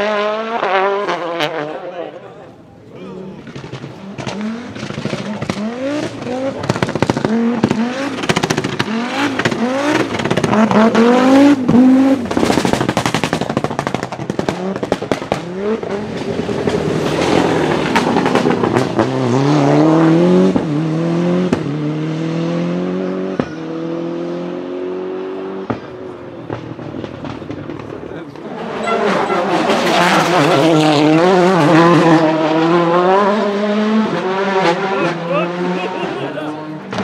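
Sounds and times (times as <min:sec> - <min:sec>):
exhaust bangs and crackles: 0:00.0 - 0:37.0
rally car engines revving: 0:00.0 - 0:37.0.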